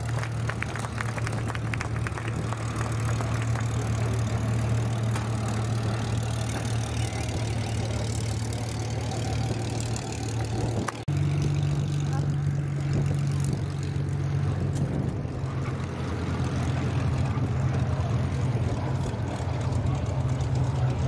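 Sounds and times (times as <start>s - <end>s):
aircraft engine droning: 0.0s - 21.0s.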